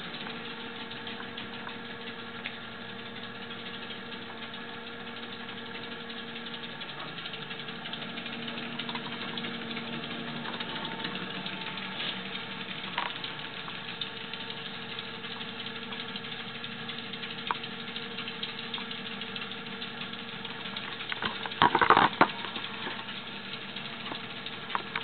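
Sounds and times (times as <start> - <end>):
treadmill clatter: 0.0 - 25.0
treadmill motor hum: 0.0 - 25.0.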